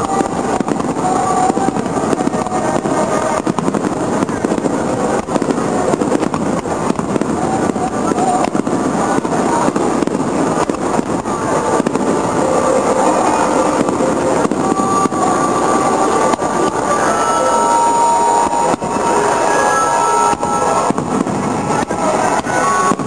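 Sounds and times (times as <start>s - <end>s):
fireworks booming: 0.0s - 23.0s
fireworks cracks and crackles: 0.0s - 23.0s.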